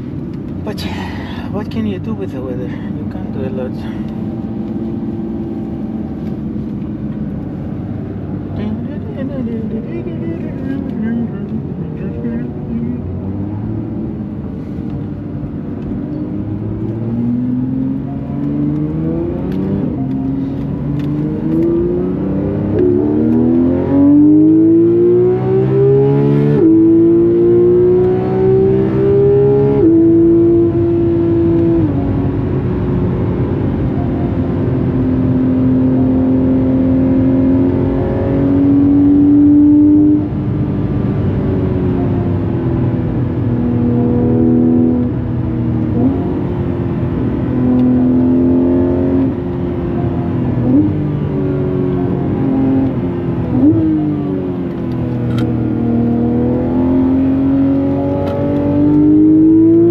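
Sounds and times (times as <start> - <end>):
sports car engine accelerating: 0.0 - 59.9.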